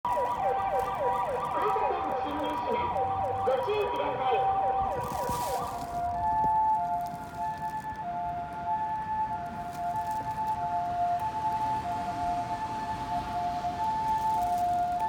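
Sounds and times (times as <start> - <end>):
ambulance siren yelping: 0.1 - 15.0.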